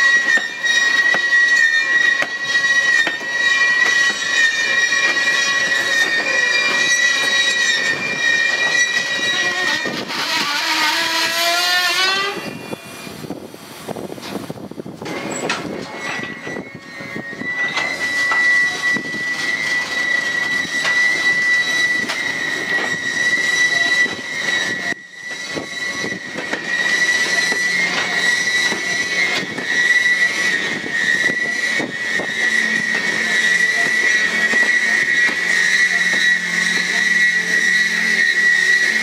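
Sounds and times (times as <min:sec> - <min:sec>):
train wheels squealing: 0:00.0 - 0:13.4, 0:14.0 - 0:39.0
train wheels rumbling and clicking: 0:00.0 - 0:39.0.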